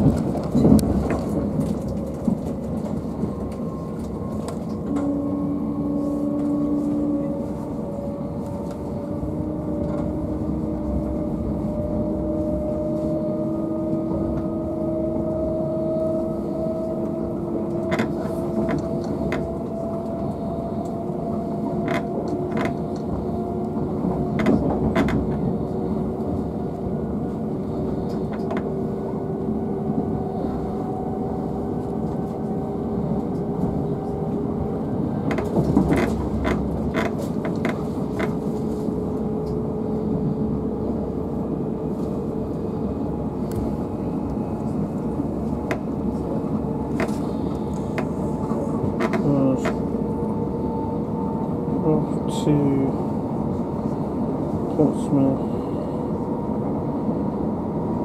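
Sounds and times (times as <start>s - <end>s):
train traction whine: 0.0s - 58.0s
wheels rumbling on rail: 0.0s - 58.0s.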